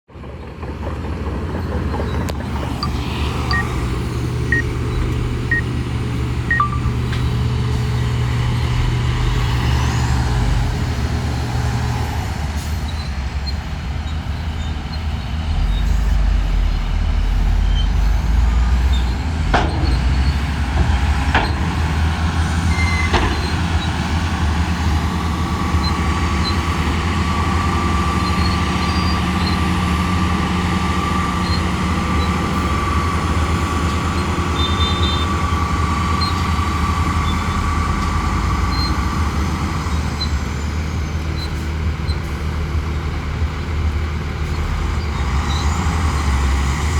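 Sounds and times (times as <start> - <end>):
bulldozer diesel engine running: 0.1 - 46.9.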